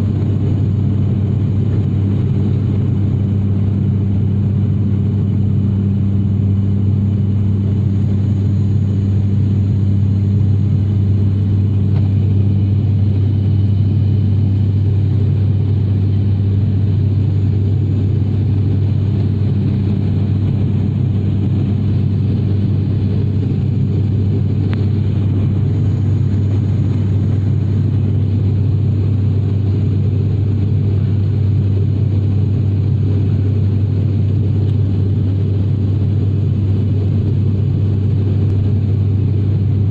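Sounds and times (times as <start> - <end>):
propeller airliner engines droning: 0.0 - 39.9.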